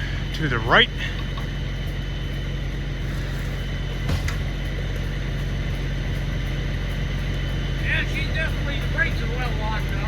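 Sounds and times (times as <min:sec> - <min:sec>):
tow truck engine running: 0:00.0 - 0:10.0.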